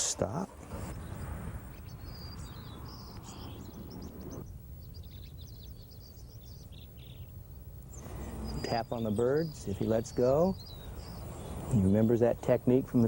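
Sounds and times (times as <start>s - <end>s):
low steady background hum: 0.0s - 13.0s
small birds chirping: 0.0s - 13.0s.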